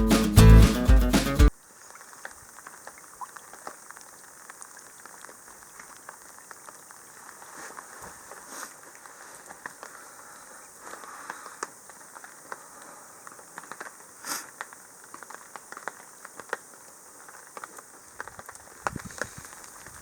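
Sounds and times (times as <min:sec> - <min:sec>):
campfire crackling and popping: 0:01.2 - 0:20.0
rain pattering on a tarp: 0:01.5 - 0:20.0.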